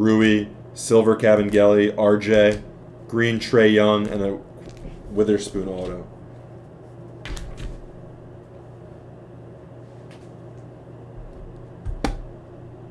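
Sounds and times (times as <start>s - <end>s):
low electrical hum: 0.0s - 12.9s.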